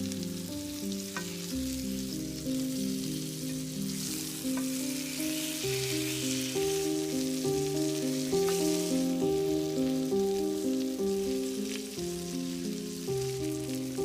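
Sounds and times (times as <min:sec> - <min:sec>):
background music melody: 0:00.0 - 0:14.0
food sizzling in a pan: 0:00.0 - 0:14.0.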